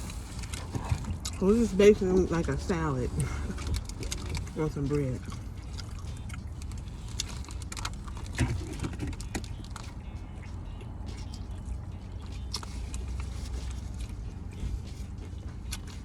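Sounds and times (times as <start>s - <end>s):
person chewing sandwich: 0.0s - 16.0s
steady low hum: 0.0s - 16.0s
wet mouth clicks and crunches: 0.0s - 16.0s.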